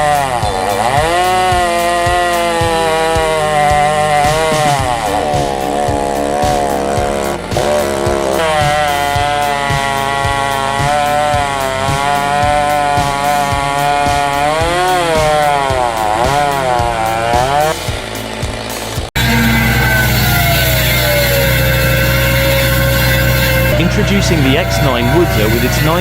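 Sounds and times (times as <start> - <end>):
chainsaw cutting at high revs: 0.0 - 26.0
music beat: 0.0 - 26.0.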